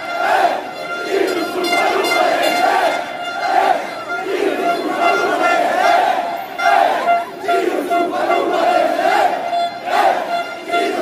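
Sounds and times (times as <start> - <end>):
crowd shouting and chanting: 0.0 - 11.0
horn blasts: 0.0 - 11.0.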